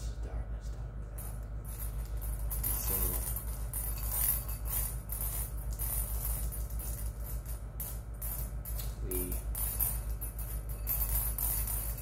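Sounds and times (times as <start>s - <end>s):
steady low hum: 0.0s - 12.0s
jingling shaker rattle: 1.2s - 12.0s.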